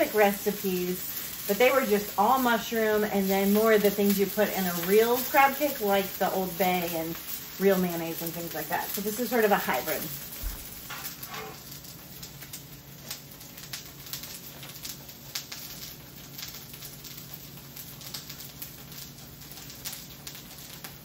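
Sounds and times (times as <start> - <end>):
oil crackling and popping in pan: 0.0 - 21.0.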